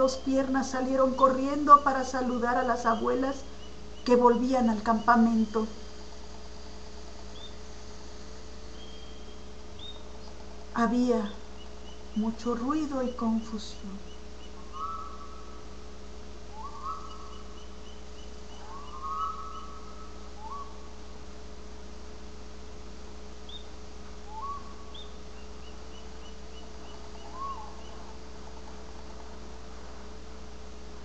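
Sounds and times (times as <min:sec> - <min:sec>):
faint rising whistled calls: 0:00.0 - 0:06.2, 0:07.2 - 0:07.7, 0:08.4 - 0:21.2, 0:23.4 - 0:29.5
steady electrical hum: 0:00.0 - 0:31.0.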